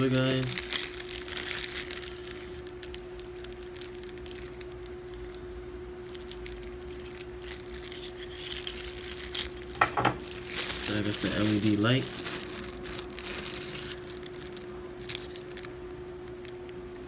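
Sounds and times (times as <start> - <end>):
plastic bag crinkling: 0.0 - 5.4, 6.0 - 16.7
steady low hum: 0.0 - 17.0.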